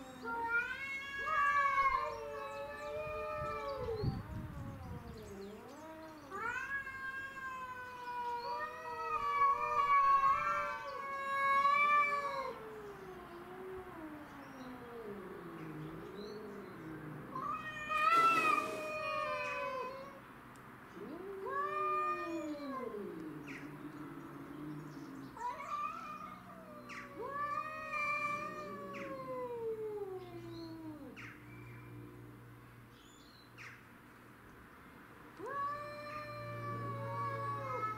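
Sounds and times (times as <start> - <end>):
cats yowling: 0.0 - 20.2, 20.9 - 32.1, 35.3 - 37.9.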